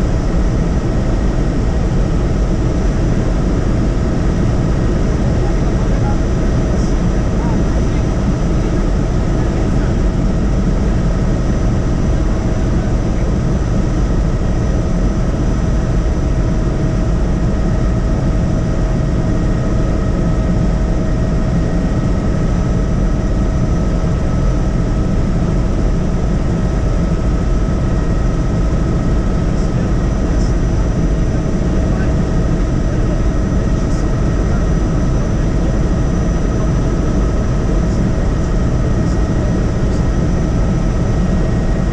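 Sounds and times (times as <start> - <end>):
helicopter engine and rotor drone: 0.0 - 41.9
high steady whines: 0.0 - 41.9.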